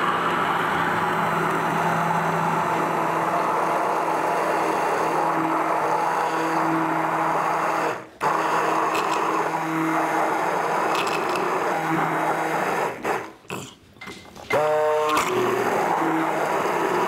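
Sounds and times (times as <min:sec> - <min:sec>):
immersion blender motor whir: 0:00.0 - 0:13.5, 0:14.5 - 0:17.0.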